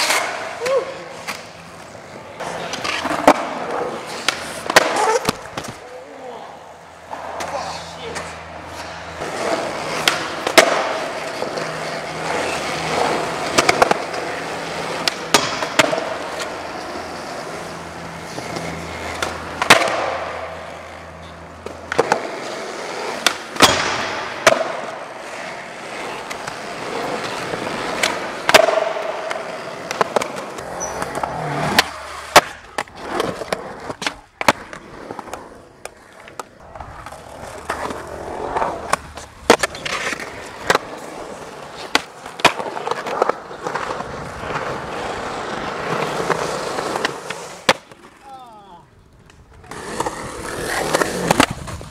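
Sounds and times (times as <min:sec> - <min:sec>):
skateboard clacks: 0:00.0 - 0:06.2, 0:07.0 - 0:51.9
skateboard scraping along ledge: 0:00.0 - 0:48.2, 0:49.4 - 0:51.9
skateboard wheels rolling on concrete: 0:00.0 - 0:51.9.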